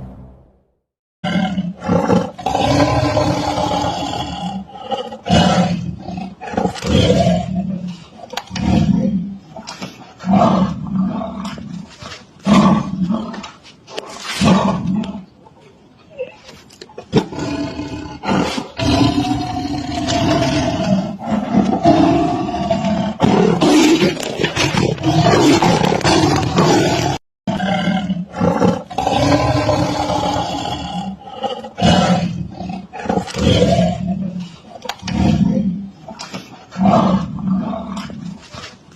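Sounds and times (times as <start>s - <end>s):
big cats roaring: 1.2s - 13.6s, 17.1s - 38.5s.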